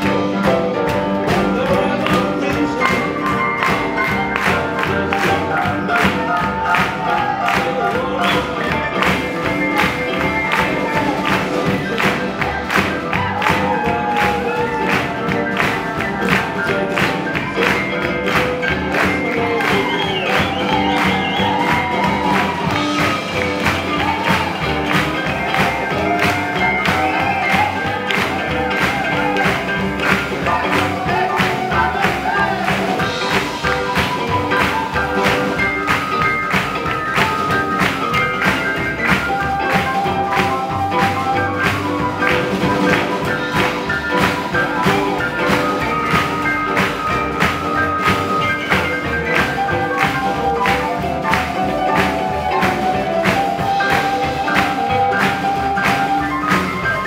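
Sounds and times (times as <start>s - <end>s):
swing jazz band playing: 0.0s - 57.0s.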